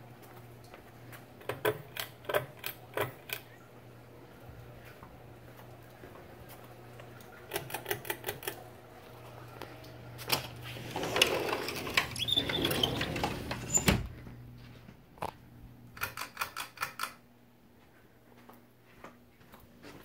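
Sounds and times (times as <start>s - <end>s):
ceiling fan motor hum: 0.0s - 16.1s.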